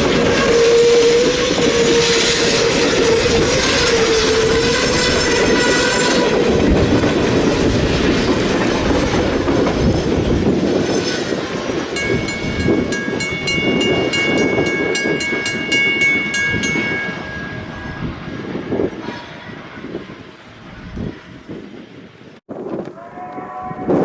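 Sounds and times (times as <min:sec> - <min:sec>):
train wheels clattering: 0:00.0 - 0:19.8.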